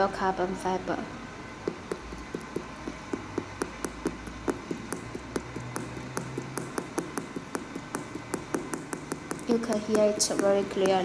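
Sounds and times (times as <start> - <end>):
fingertips tapping sneaker sole: 1.6 - 11.0.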